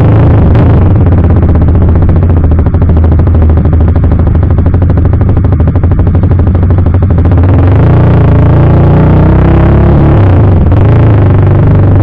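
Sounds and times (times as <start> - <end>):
motorcycle engine rattling exhaust: 0.0 - 12.0.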